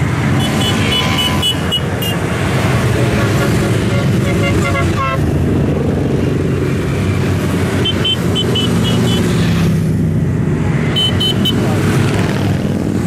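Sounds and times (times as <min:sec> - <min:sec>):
road traffic engines: 0:00.0 - 0:13.0.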